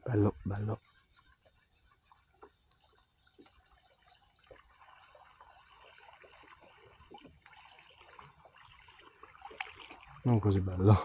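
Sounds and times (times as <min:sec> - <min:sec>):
water trickling and lapping: 0:00.0 - 0:11.0
small ticks: 0:00.8 - 0:10.2.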